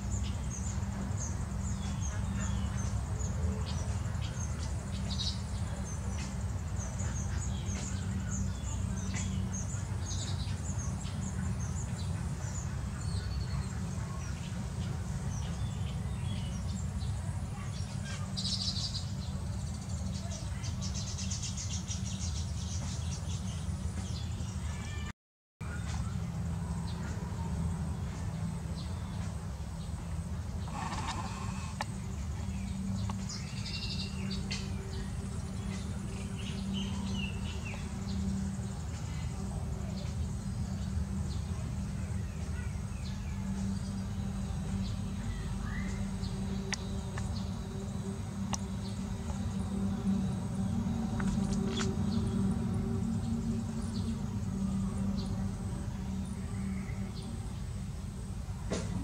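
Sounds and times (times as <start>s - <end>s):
steady low hum: 0.0s - 25.0s, 25.6s - 59.0s
weaver birds chirping: 0.0s - 59.0s.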